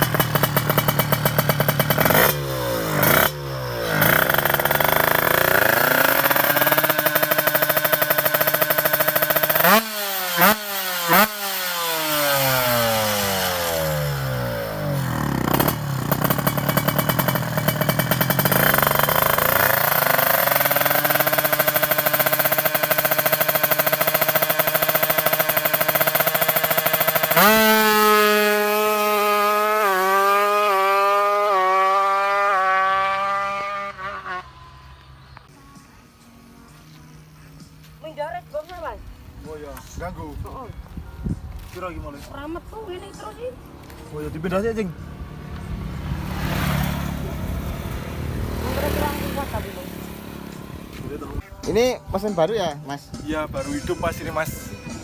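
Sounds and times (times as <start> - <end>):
two-stroke motorcycle engine revving: 0.0 - 35.5, 42.3 - 55.0.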